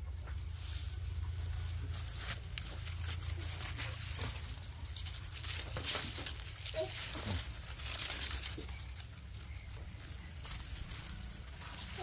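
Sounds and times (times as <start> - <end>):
fodder crackling and rustling: 0.0 - 12.0
steady low hum: 0.0 - 12.0.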